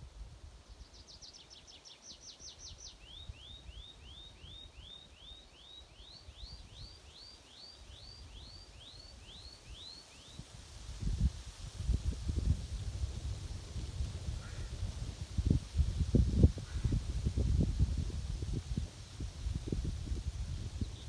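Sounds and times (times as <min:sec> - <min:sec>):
songbird singing: 0:00.6 - 0:10.5, 0:13.9 - 0:21.0.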